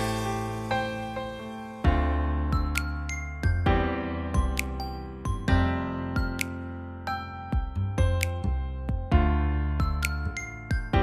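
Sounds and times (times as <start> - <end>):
gentle keyboard music: 0.0 - 11.0.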